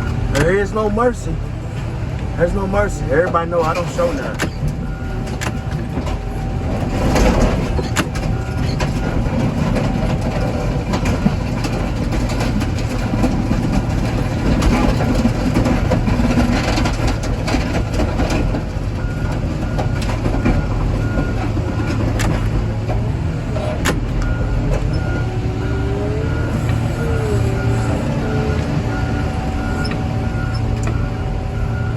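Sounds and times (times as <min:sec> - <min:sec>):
heavy diesel machinery running: 0:00.0 - 0:31.9.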